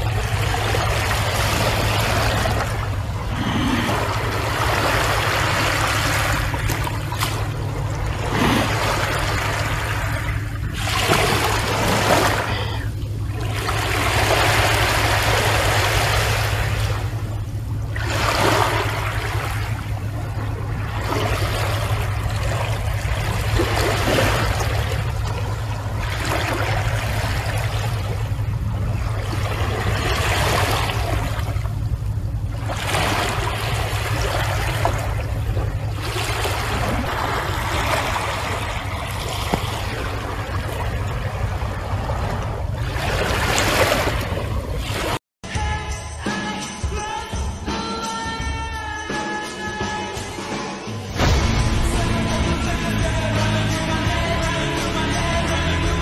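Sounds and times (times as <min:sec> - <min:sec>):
sea waves washing: 0:00.0 - 0:45.2, 0:51.0 - 0:54.2
steady low hum: 0:00.0 - 0:45.2.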